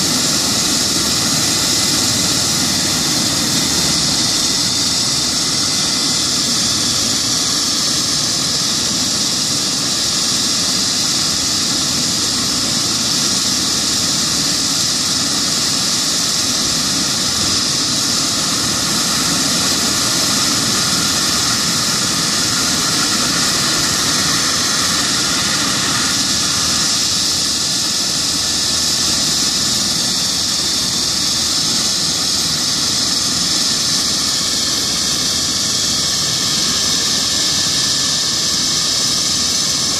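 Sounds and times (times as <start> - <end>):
helicopter turbine engines whining: 0.0 - 39.9.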